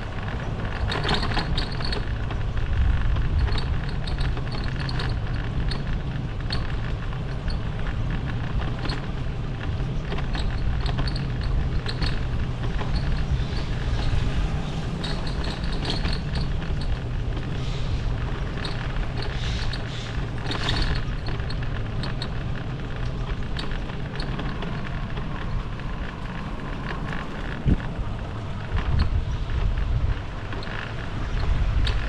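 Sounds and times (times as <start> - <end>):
bicycle road noise: 0.0 - 32.0
light clicks and rattles: 0.0 - 32.0
wind rumble on microphone: 0.0 - 32.0.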